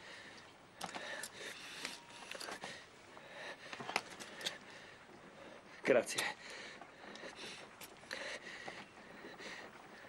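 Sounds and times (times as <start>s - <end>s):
man breathing hard: 0.0s - 10.0s.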